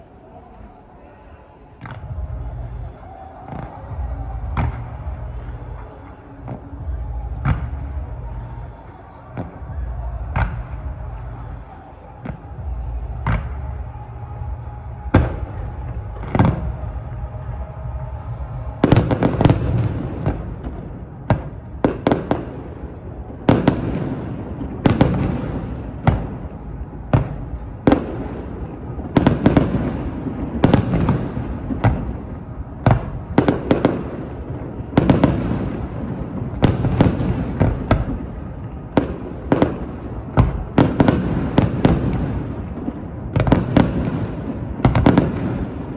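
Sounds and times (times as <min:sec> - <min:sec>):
fireworks bangs with echo: 0:01.0 - 0:45.9.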